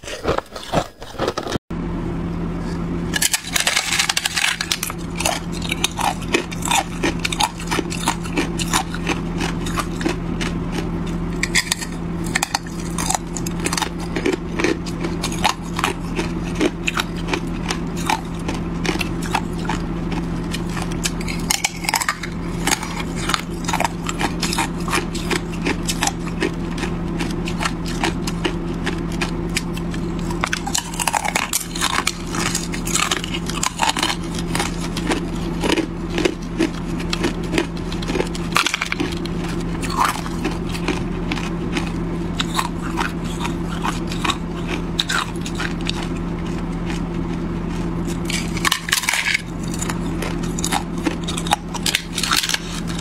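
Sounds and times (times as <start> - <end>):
ice crunching while chewed: 0.0 - 1.6, 2.6 - 53.0
steady low hum: 0.0 - 53.0.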